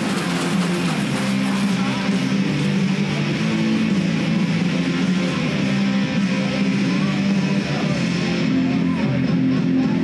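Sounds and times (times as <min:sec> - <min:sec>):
strummed electric guitar music: 0:00.0 - 0:10.0.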